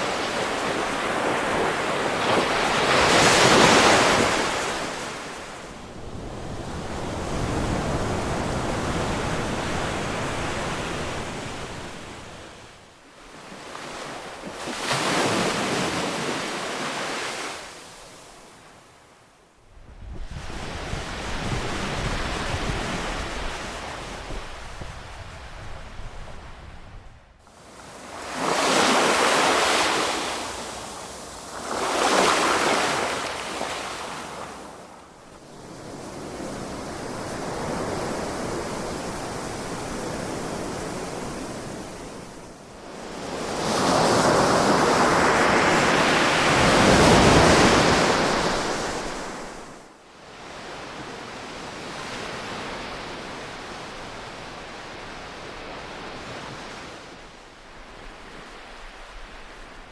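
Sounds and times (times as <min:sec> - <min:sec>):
ocean waves washing ashore: 0:00.0 - 0:59.9.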